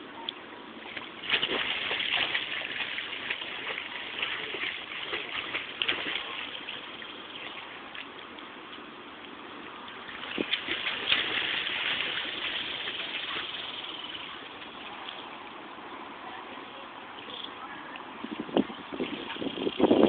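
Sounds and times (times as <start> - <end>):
pool water splashing: 0.7 - 18.2.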